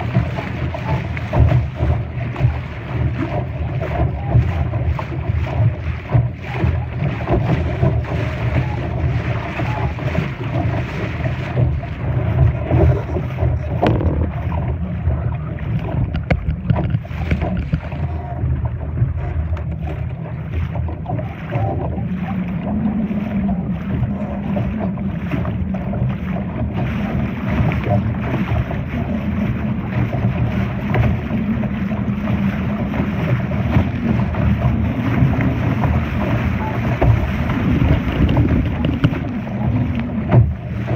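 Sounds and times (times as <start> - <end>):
water rushing along hull: 0.0 - 40.9
wind buffeting microphone: 0.0 - 40.9.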